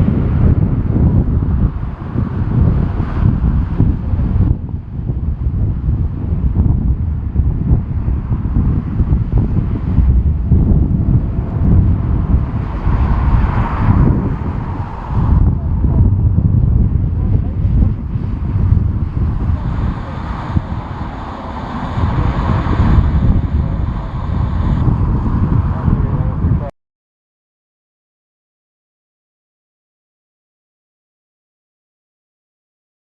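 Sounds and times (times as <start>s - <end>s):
gusty wind buffeting microphone: 0.0s - 26.7s
jet airliner engines: 0.0s - 26.7s.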